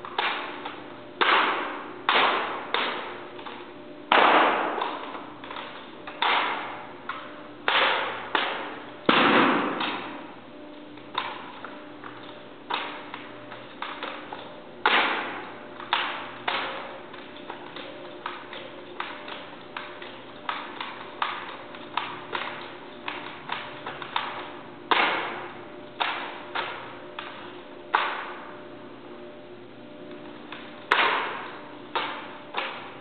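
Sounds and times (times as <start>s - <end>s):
hands slapping a drill rifle: 0.0s - 10.2s, 11.0s - 25.4s, 26.0s - 28.4s, 30.5s - 32.9s.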